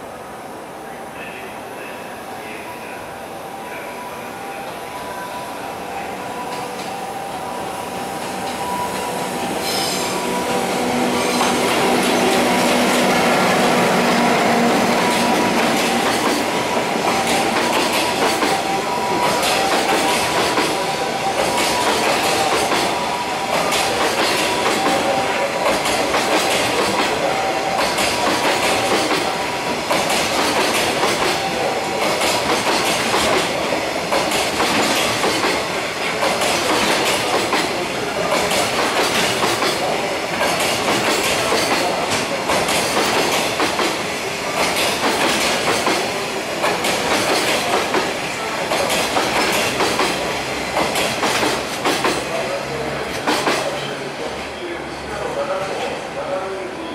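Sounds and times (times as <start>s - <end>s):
train wagons rumbling: 8.1s - 54.1s.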